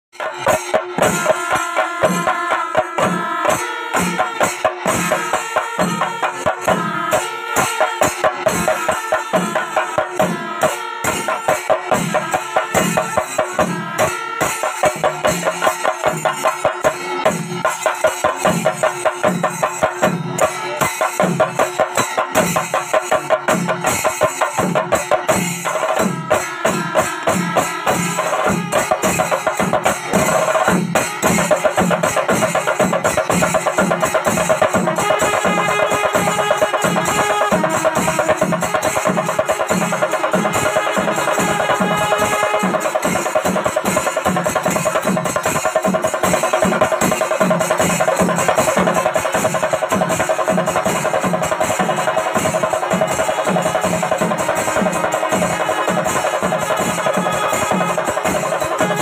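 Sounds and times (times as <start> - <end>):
drum ensemble playing: 0.1 - 59.0.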